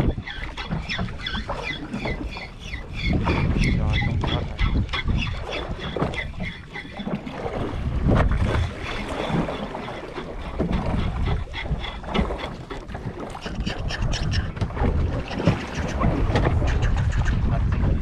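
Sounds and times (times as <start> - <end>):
water lapping against hull: 0.0 - 18.0
wind gusting over microphone: 0.0 - 18.0.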